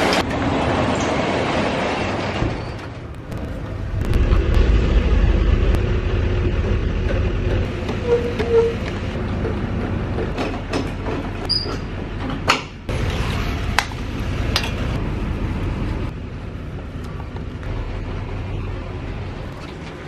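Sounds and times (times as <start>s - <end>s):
truck engine idling: 3.1s - 20.0s.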